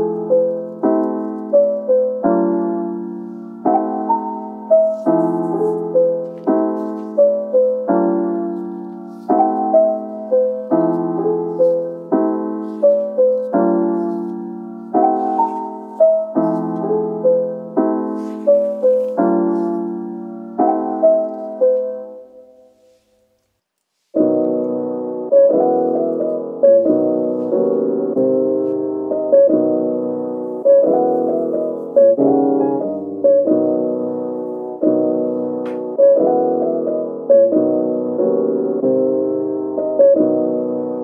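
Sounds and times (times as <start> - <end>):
gentle piano melody: 0.0 - 41.0.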